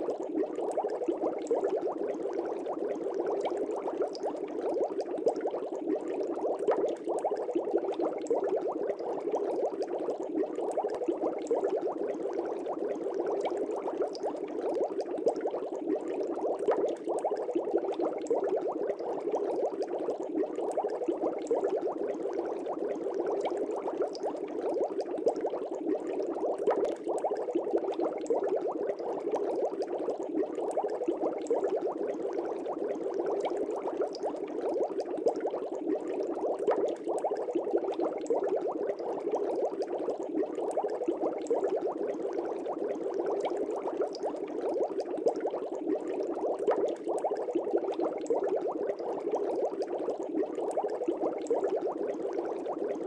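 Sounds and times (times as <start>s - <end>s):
aquarium air bubbling: 0.0s - 53.0s.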